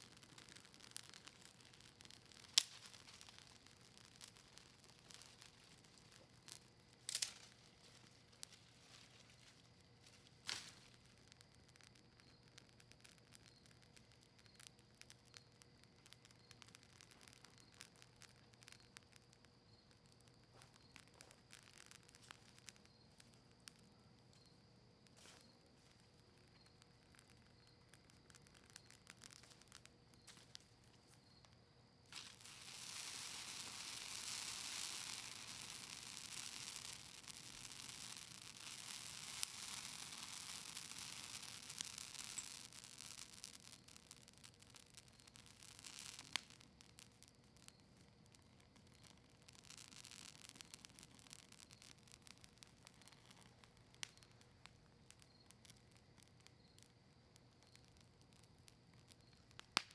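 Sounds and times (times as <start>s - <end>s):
campfire crackling and popping: 0.0s - 59.9s
steady hiss: 0.0s - 59.9s.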